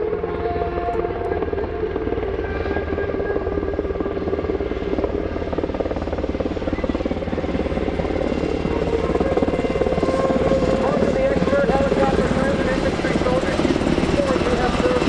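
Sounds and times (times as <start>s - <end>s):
helicopter rotor chop: 0.0s - 15.0s
turbine whine: 0.0s - 15.0s.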